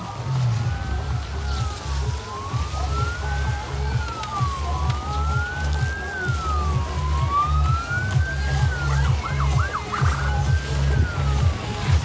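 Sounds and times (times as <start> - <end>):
deep pulsing bass music: 0.0 - 12.0
emergency siren wailing: 0.0 - 12.0.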